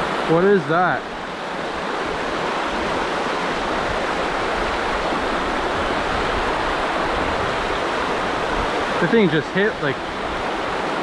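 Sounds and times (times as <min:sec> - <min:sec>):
river rapids roaring: 0:00.0 - 0:11.0.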